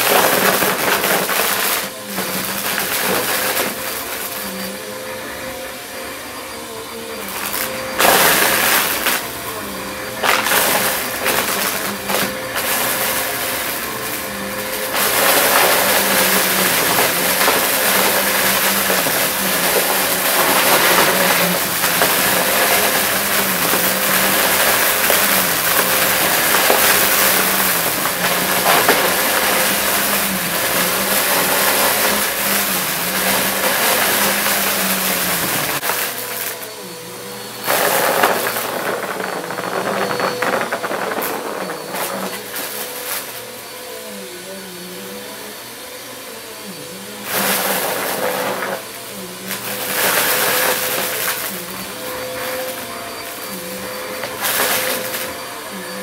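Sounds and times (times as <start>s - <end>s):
vacuum cleaner motor hum: 0.0s - 56.0s.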